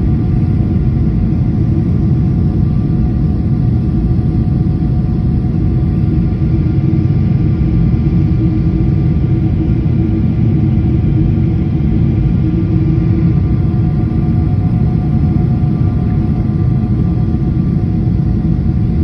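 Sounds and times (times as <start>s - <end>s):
jet engines and airflow rumble: 0.0s - 19.0s.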